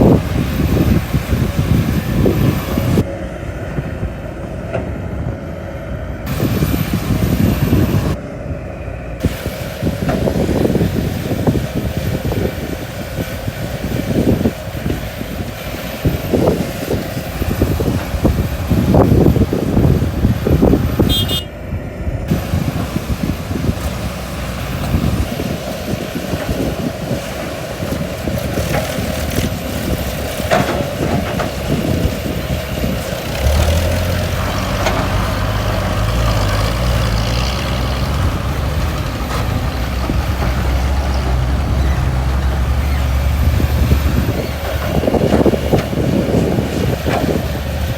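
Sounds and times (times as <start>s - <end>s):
diesel engines running: 0.0s - 47.9s.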